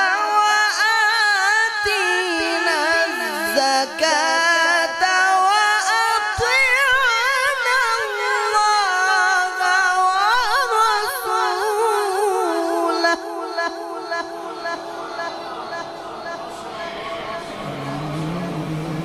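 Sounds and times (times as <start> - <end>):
man reciting melodically: 0.0 - 19.0.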